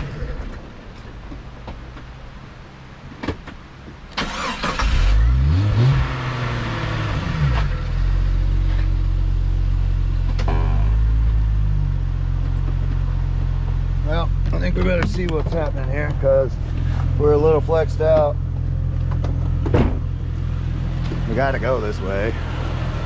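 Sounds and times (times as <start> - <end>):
car engine surging: 4.2 - 23.0.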